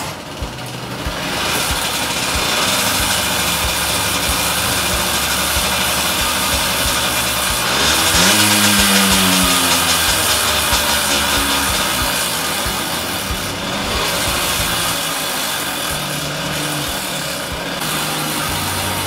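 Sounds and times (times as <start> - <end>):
two-stroke engine idling and revving: 0.0 - 19.0.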